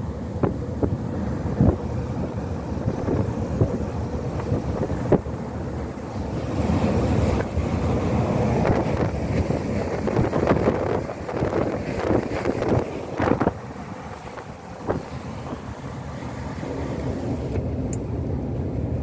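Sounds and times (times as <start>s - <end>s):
vehicle road noise: 0.0s - 19.0s
wind buffeting microphone: 0.0s - 19.0s.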